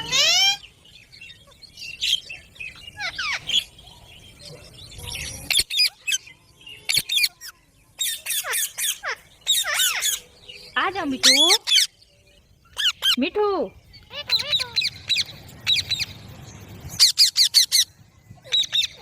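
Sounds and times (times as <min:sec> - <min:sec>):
parakeets squawking: 0:00.0 - 0:03.8, 0:05.0 - 0:06.3, 0:06.9 - 0:16.3, 0:16.9 - 0:19.0.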